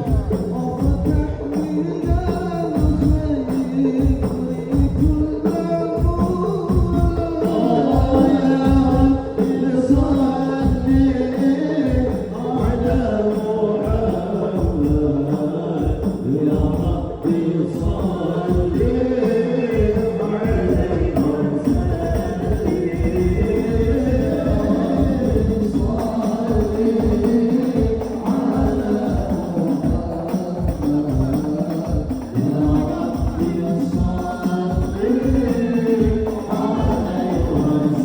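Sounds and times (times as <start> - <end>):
hand drums beating: 0.0 - 38.0
man singing devotional song: 0.0 - 38.0.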